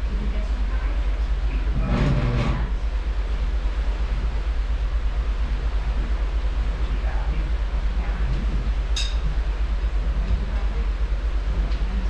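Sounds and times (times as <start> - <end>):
ship engine rumble: 0.0 - 12.0.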